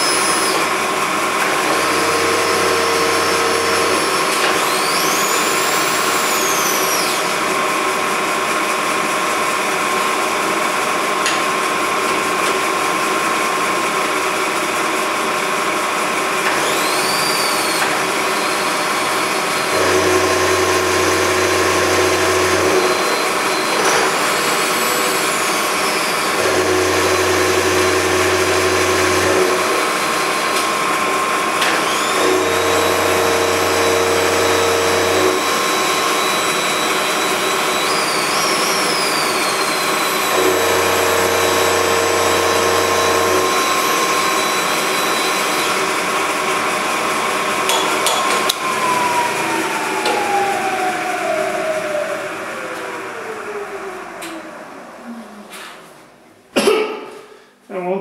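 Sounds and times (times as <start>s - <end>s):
milling machine whine: 0.0s - 55.5s.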